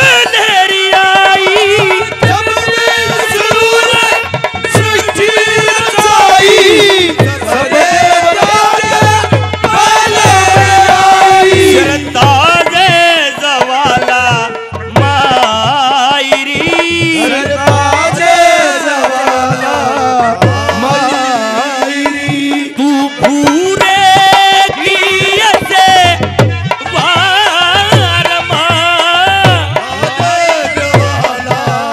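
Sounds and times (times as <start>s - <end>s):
hand drum beat: 1.4s - 31.9s.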